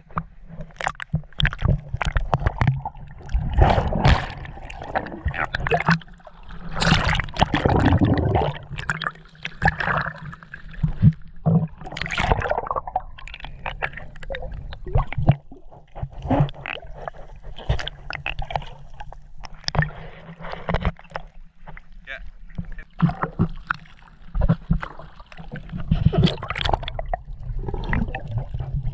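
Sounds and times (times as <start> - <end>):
seawater splashing and gurgling: 0.0 - 28.9.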